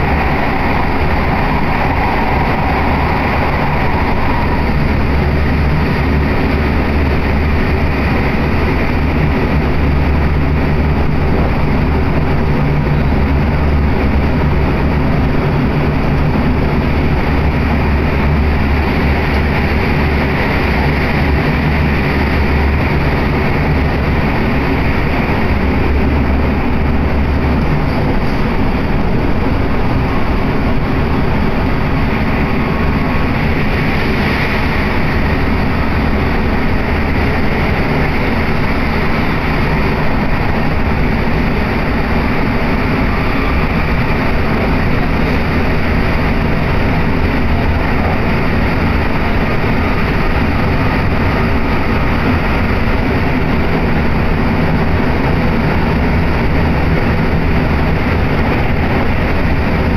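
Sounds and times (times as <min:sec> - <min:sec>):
low hum: 0:00.0 - 0:59.9
train carriage rushing noise: 0:00.0 - 0:59.9.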